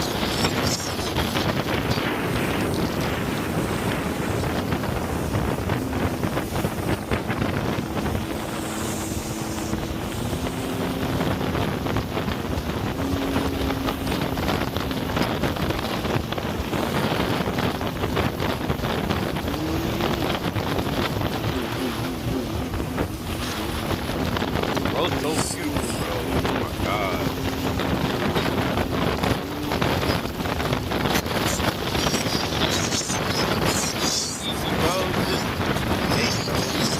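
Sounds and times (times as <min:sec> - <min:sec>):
jet ski engine running: 0:00.0 - 0:36.9
water rushing and slapping: 0:00.0 - 0:36.9
wind buffeting microphone: 0:00.0 - 0:36.9.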